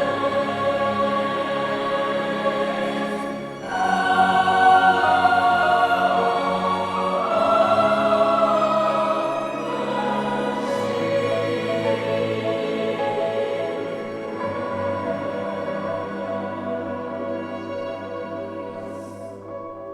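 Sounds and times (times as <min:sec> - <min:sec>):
choir singing held chords: 0:00.0 - 0:19.5.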